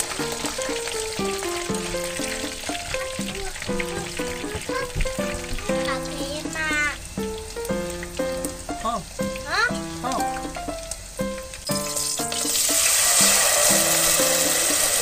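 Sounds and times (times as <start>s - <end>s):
background music: 0.0s - 15.0s
pork deep-frying in oil: 0.0s - 15.0s
sauce sizzling in hot pot: 0.0s - 15.0s.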